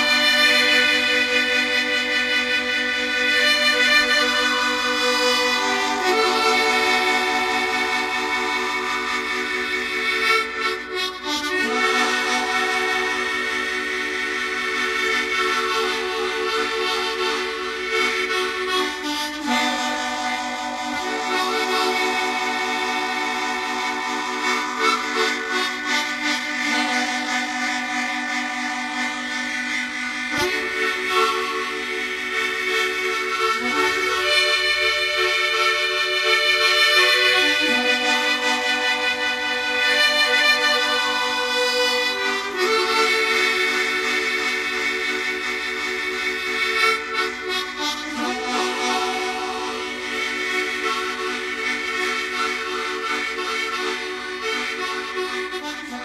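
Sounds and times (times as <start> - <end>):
harmonica chords: 0.0 - 56.0.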